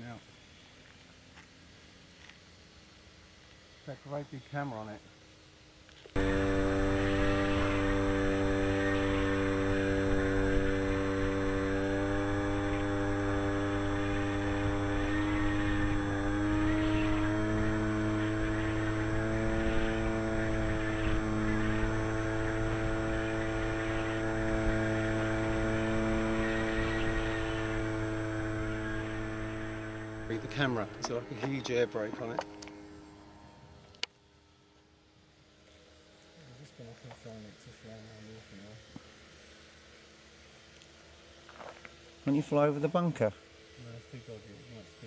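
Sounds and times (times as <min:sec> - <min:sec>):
electric model plane motor whine: 0:02.1 - 0:45.0.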